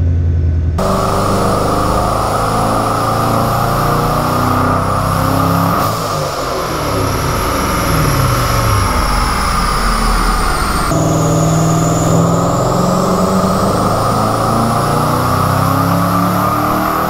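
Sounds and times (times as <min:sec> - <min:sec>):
car engine on dyno: 0:00.0 - 0:17.0.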